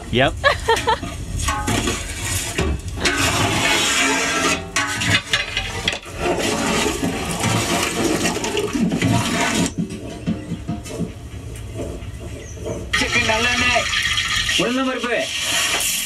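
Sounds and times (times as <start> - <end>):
thick liquid sloshing in metal pot: 0.8 - 16.0.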